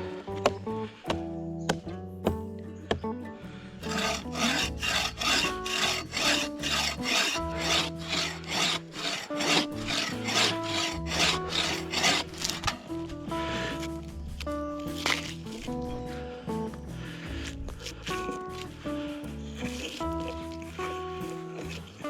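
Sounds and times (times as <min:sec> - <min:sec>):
hand saw cutting a log: 0:03.8 - 0:22.0.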